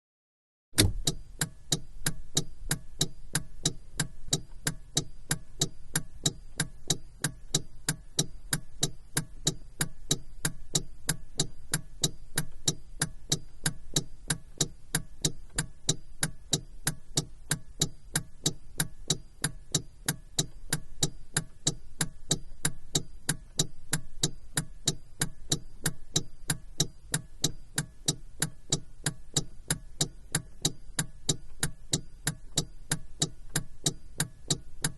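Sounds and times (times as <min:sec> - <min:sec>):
turn signal ticking: 0:00.8 - 0:34.9.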